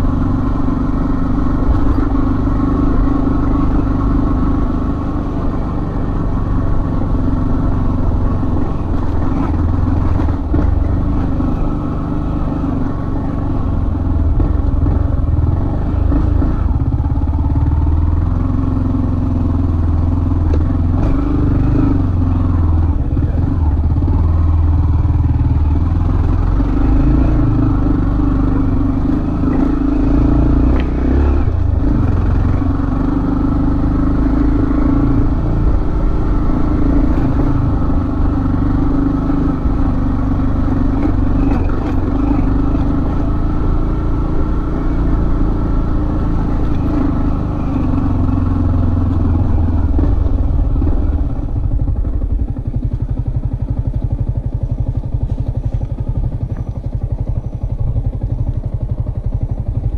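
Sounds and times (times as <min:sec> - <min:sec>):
motorcycle engine climbing hill: 0:00.0 - 0:59.9.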